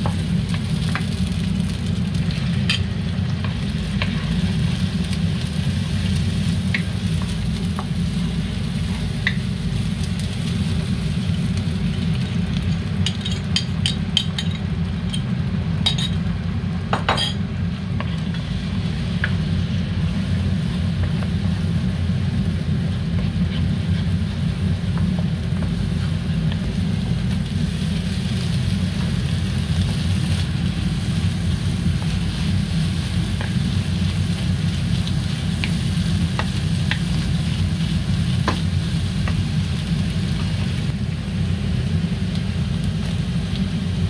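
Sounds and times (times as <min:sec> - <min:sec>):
egg sizzling in a frying pan: 0:00.0 - 0:44.0
steady low hum: 0:00.0 - 0:44.0.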